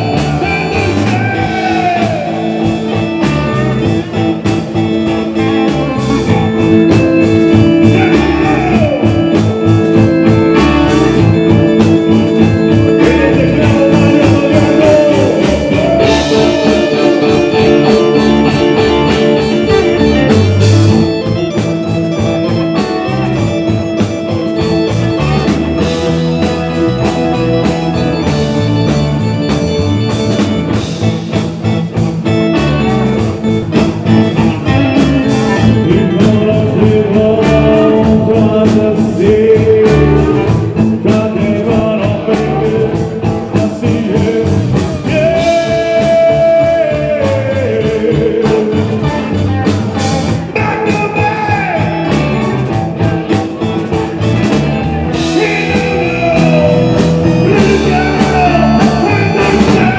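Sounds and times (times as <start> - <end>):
electric guitar bending notes: 0.0 - 59.9
rock band playing live: 0.0 - 59.9.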